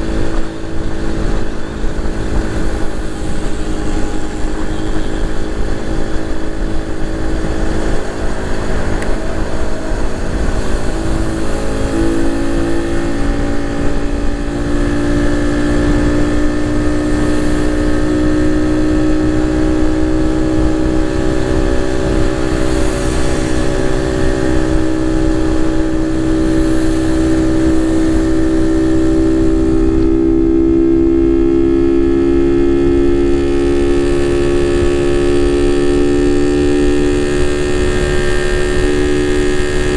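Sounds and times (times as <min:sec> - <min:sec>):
motorcycle engine pulling under load: 0:00.0 - 0:39.9
rushing noise: 0:00.0 - 0:39.9.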